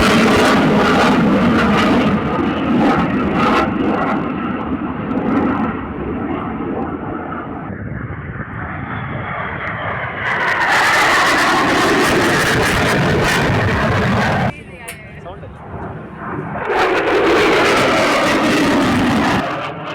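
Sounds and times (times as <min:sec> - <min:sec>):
aircraft engine roar: 0:00.0 - 0:19.9.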